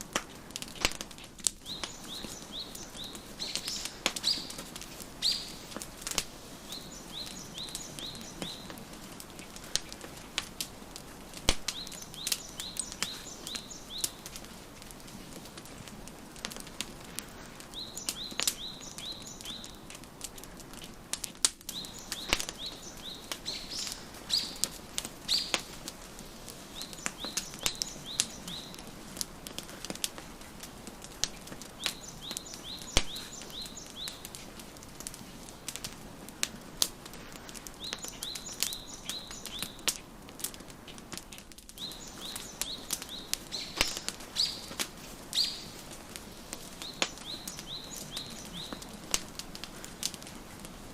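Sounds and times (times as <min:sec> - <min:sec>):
songbirds chirping: 0:00.0 - 0:50.9
wood fire crackling and popping: 0:00.0 - 0:50.9.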